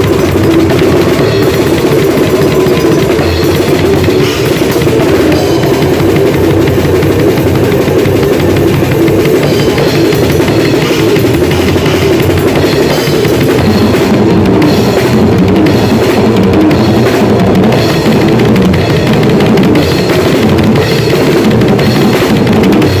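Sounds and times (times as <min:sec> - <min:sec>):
drum kit played hard: 0:00.0 - 0:23.0.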